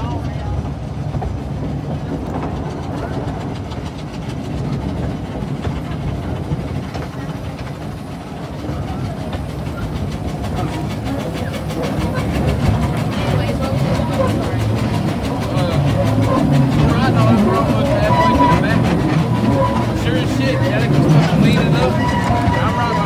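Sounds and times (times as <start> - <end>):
train rumbling on track: 0.0 - 23.0
wheels clickety-clack over rails: 0.0 - 23.0.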